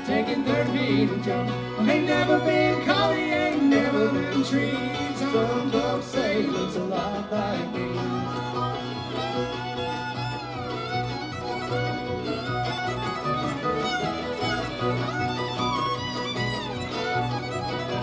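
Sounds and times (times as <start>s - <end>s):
bluegrass band playing: 0.0s - 18.0s
fiddle with sliding notes: 0.0s - 18.0s.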